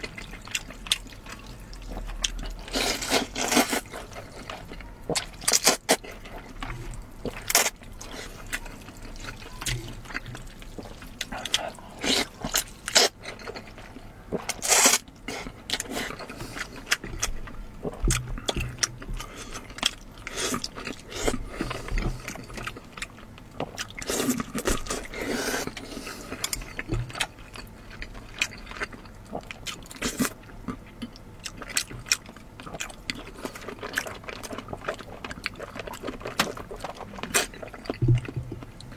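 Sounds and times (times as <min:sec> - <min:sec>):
wet chewing and mouth smacks: 0:00.0 - 0:38.9.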